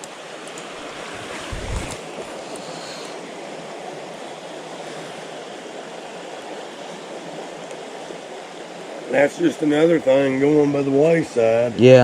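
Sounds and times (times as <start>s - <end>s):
stream running water: 0.0s - 12.0s.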